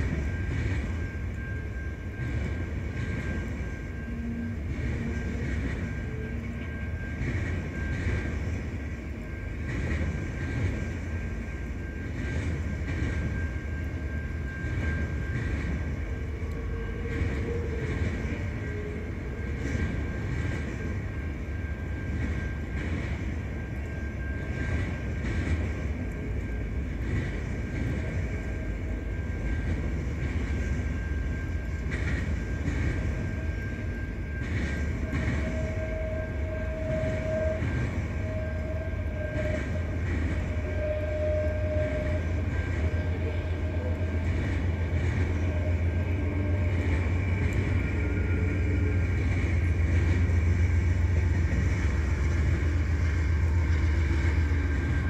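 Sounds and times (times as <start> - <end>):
diesel locomotive passing: 0.0 - 55.0
faint thin squeal: 0.0 - 55.0
train wheels rumbling on rails: 0.0 - 55.0.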